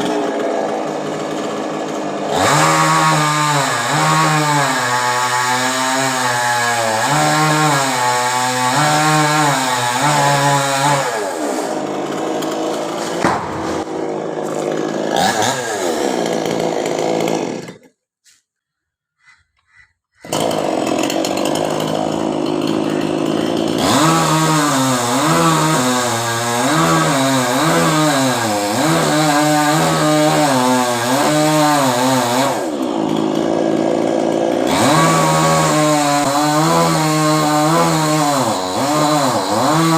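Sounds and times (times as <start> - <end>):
chainsaw cutting tree trunk: 0.0 - 18.0, 20.2 - 39.9.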